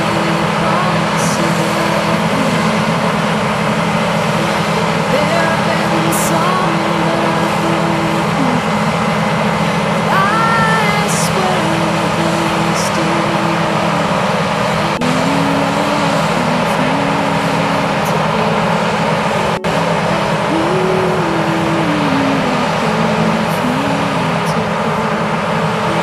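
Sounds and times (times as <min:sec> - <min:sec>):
combine harvester running: 0:00.0 - 0:26.0.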